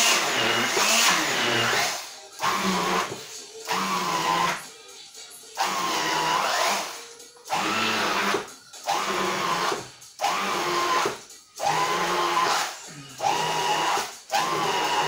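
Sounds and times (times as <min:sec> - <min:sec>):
electric hand mixer whining: 0:00.0 - 0:04.7, 0:05.6 - 0:15.0.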